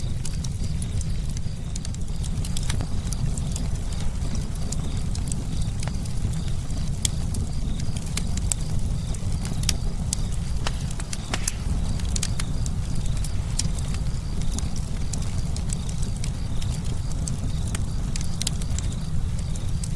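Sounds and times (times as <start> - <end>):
burning wood crackling and popping: 0.0 - 19.9
campfire flames rumbling: 0.0 - 19.9.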